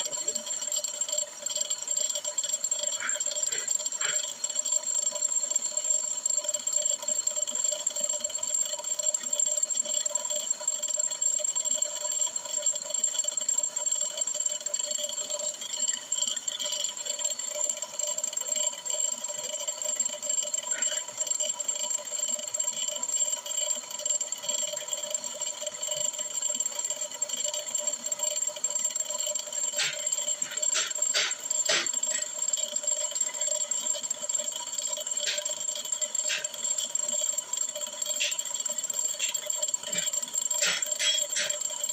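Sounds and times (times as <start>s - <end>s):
brake lathe machine whine: 0.0s - 41.9s.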